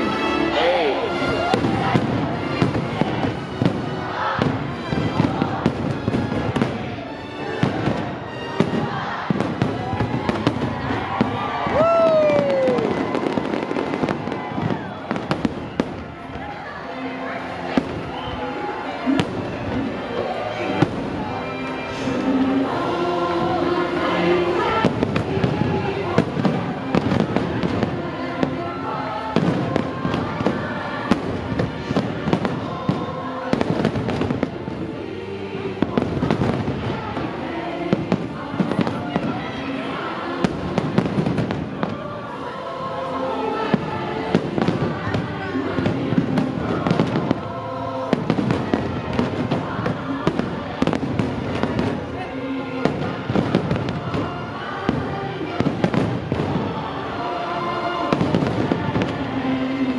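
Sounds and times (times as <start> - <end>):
music: 0.0 - 59.9
fireworks bangs: 1.4 - 7.0, 7.6 - 16.5, 17.7 - 21.4, 22.0 - 34.8, 35.8 - 42.1, 43.6 - 57.1, 57.9 - 59.9.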